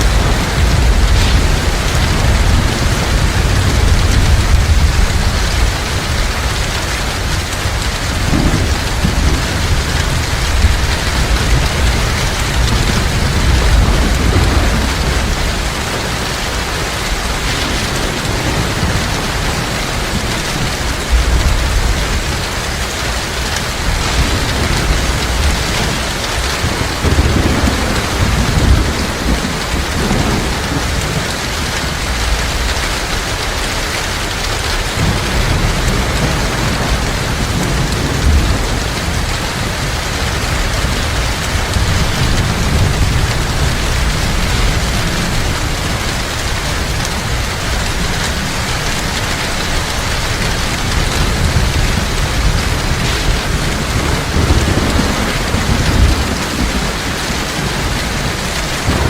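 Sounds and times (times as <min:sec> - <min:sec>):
heavy rain pouring: 0:00.0 - 0:59.0
low thunder rumbling: 0:00.0 - 0:59.0.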